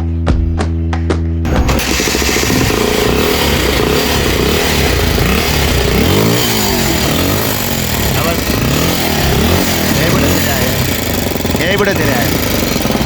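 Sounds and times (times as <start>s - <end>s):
dirt bike engine revving: 1.5s - 13.0s.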